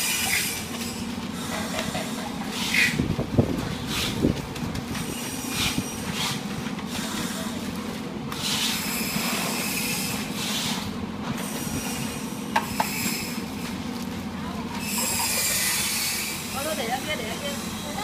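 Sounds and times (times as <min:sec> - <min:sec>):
dry rustling and scraping of sticks: 0:00.0 - 0:17.2
low machine hum: 0:00.0 - 0:18.0.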